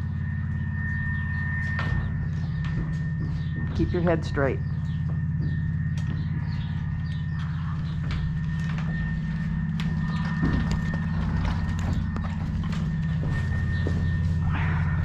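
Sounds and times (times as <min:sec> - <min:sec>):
steady low rumble: 0:00.0 - 0:15.0
horse hooves clopping: 0:00.4 - 0:15.0.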